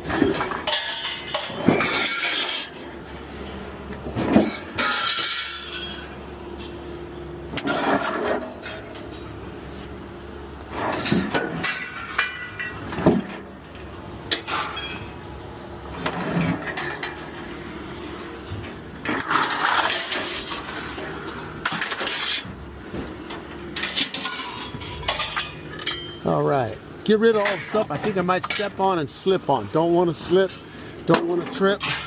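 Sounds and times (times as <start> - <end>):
scrap metal clanking onto a pile: 0.0 - 2.9, 4.1 - 6.8, 7.5 - 9.4, 10.7 - 15.2, 15.9 - 17.3, 18.5 - 32.0
steady low hum: 0.0 - 32.0.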